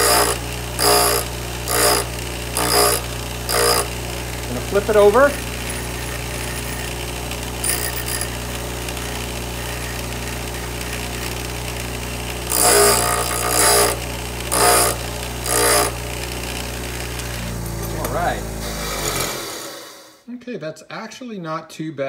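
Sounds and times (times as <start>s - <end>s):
drill bit grinding on wheel: 0.0s - 20.1s
bench grinder motor humming: 0.0s - 20.2s.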